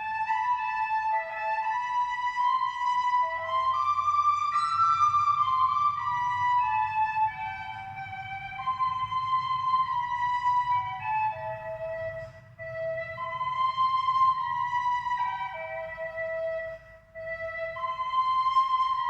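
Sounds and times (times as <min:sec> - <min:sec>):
low steady rumble: 0:00.0 - 0:19.0
slow melody of held notes: 0:00.0 - 0:19.0.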